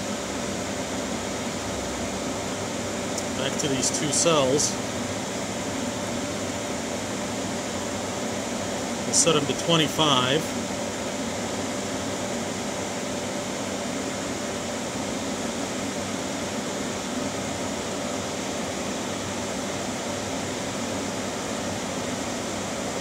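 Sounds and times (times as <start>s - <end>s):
electric cooling fan rushing air: 0.0s - 23.0s.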